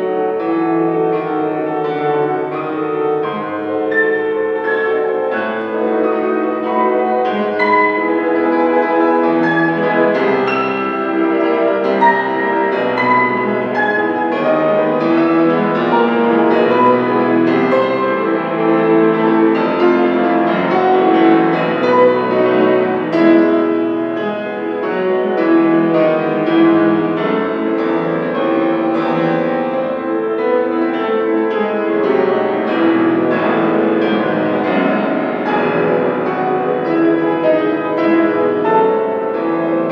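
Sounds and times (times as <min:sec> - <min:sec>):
solo classical piano: 0:00.0 - 0:39.9.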